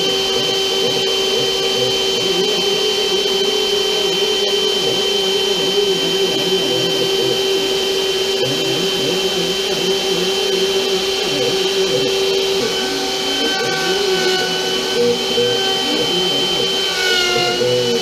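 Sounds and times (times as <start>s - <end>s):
cnc router running: 0.0s - 18.0s.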